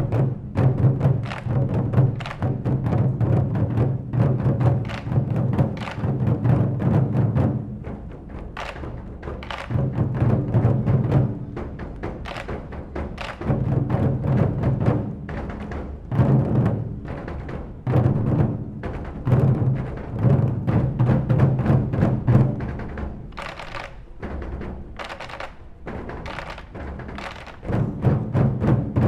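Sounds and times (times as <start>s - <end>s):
drums beaten hard and fast: 0.0s - 29.0s.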